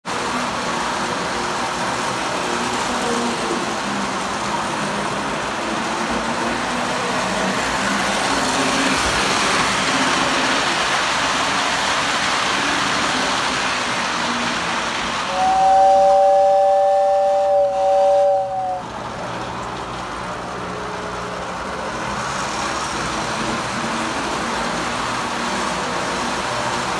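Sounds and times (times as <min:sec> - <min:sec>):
wheels rumbling on metal rails: 0:00.0 - 0:26.9.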